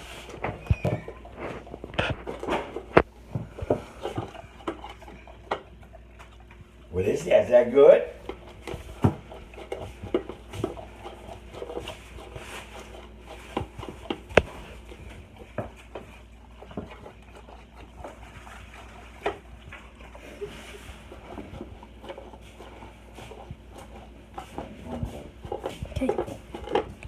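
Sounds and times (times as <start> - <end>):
dog licking and lapping: 0.3 - 27.0.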